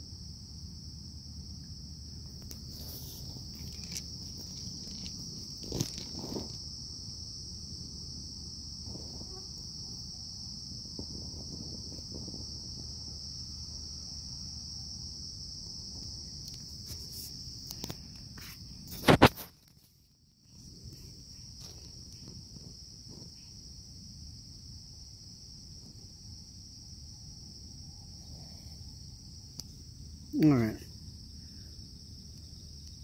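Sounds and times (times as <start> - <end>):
night insects trilling: 0.0 - 33.0.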